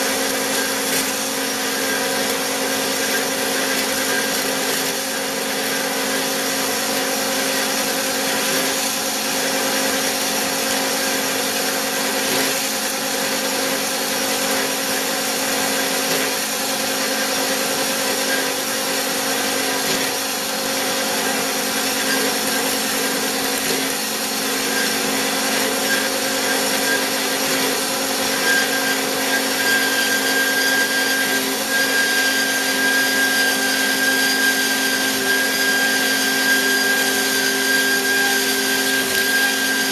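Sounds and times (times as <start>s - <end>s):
bandsaw sawing: 0.0s - 39.9s.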